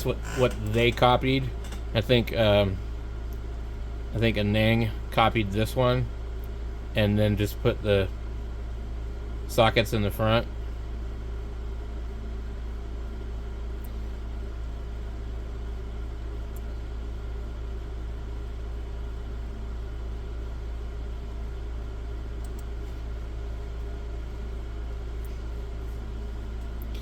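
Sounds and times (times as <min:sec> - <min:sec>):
constant hiss: 0:00.0 - 0:27.0
machinery humming: 0:00.0 - 0:27.0.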